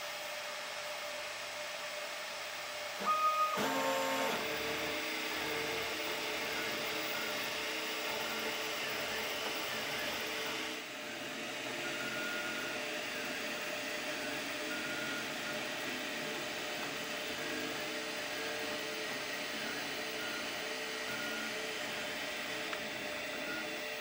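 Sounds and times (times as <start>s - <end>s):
stepper motors whining: 3.0s - 24.0s.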